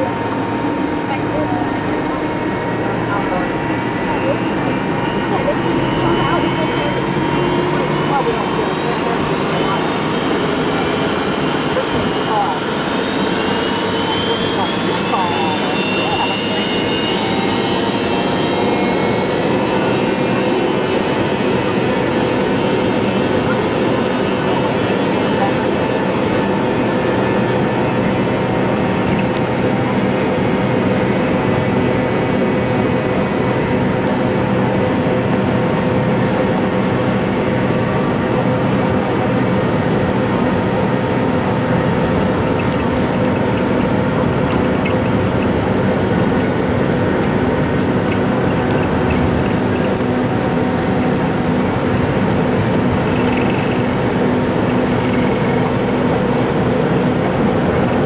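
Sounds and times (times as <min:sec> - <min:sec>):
jet engines at takeoff thrust: 0:00.0 - 0:58.0
whining engine tones: 0:00.0 - 0:58.0.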